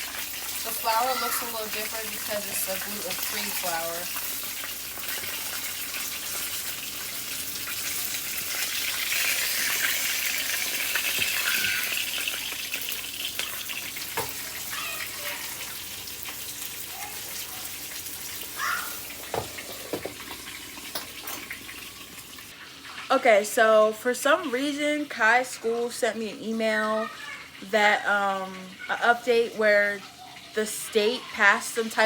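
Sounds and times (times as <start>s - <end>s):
chicken frying in hot oil: 0.0s - 32.0s.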